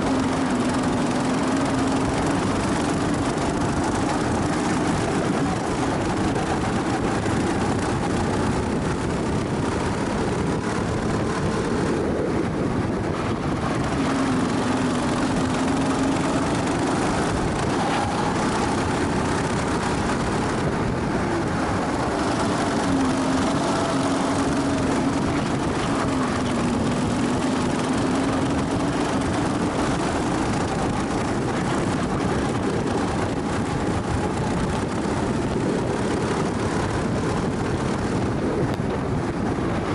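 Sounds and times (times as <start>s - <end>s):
go-kart engine at speed: 0.0s - 39.9s
wind and road noise: 0.0s - 39.9s.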